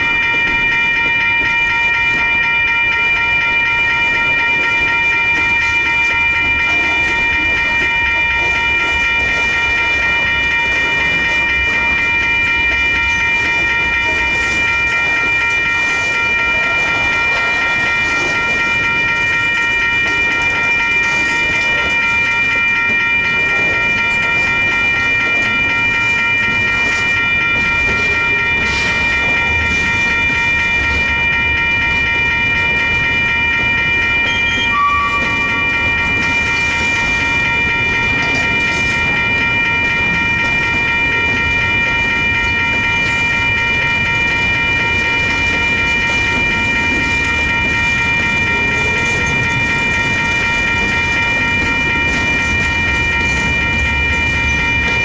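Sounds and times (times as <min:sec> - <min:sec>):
crossing warning bell ringing: 0:00.0 - 0:55.0.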